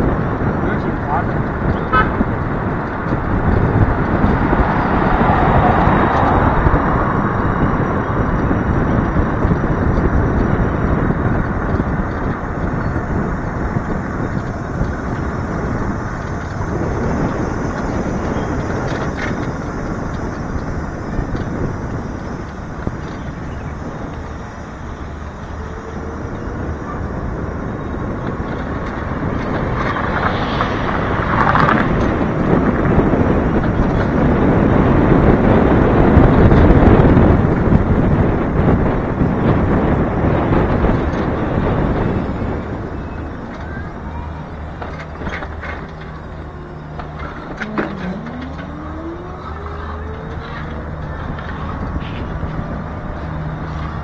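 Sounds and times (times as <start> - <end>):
tyre and road noise: 0.0 - 54.0
wind rushing over microphone: 0.0 - 54.0.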